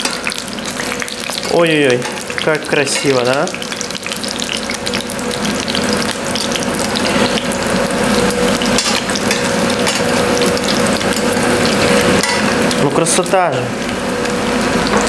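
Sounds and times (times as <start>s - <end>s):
oil crackling in a pan: 0.0s - 15.0s.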